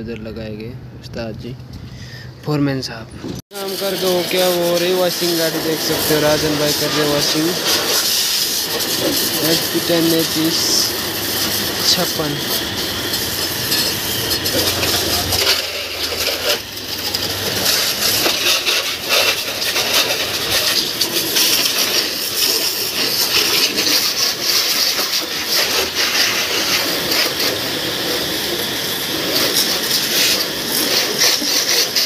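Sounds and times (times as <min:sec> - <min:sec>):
pressure washer spraying water: 0:03.5 - 0:32.0.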